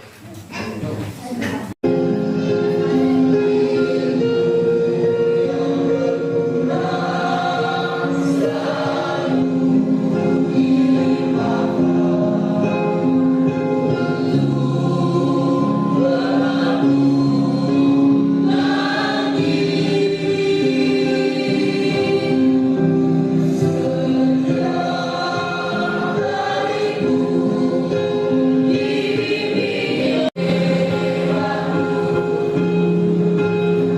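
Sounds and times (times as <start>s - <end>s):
choir singing in parts: 1.9s - 33.9s.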